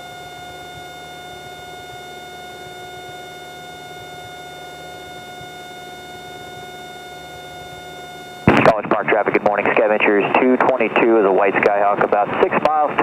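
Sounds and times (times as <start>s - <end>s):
airplane engine droning: 0.1s - 13.0s.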